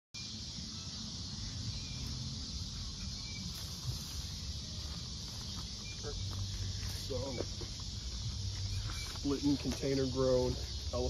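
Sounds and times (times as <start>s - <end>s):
high-pitched insect drone: 0.2s - 11.0s.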